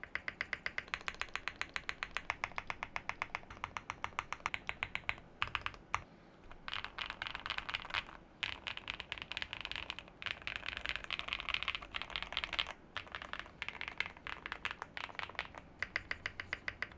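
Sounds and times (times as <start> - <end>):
fast typing on mechanical keyboard: 0.0 - 16.9.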